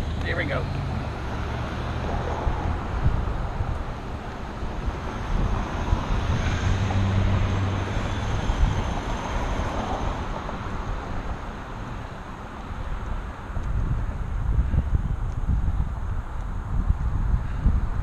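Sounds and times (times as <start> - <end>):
wind on microphone: 0.0 - 11.8, 12.7 - 18.0
road traffic: 0.0 - 18.0.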